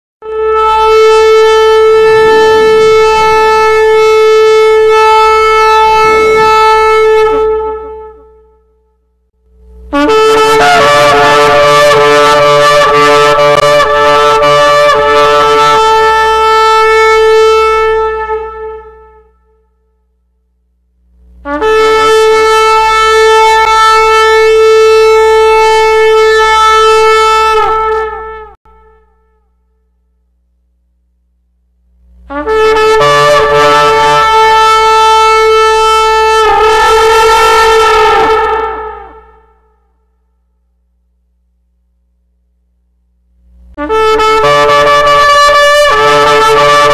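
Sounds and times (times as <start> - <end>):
shofar blasts: 0.2 - 20.0, 21.4 - 29.9, 32.3 - 40.5, 43.8 - 46.9.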